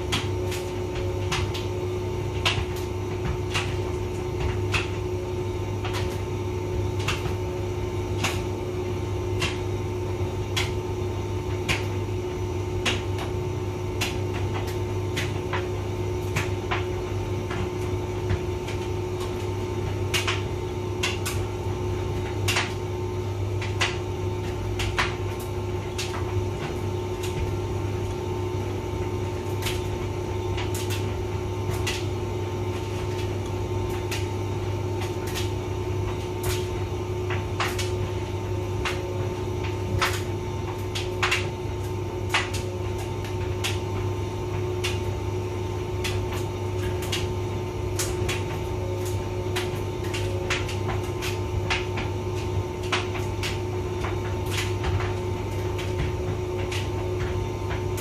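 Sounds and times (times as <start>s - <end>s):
tumble dryer motor hum: 0.0s - 58.0s.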